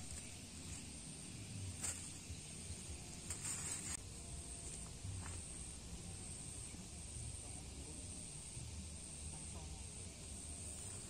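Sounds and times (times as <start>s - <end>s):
high-pitched insect hiss: 0.0s - 11.0s.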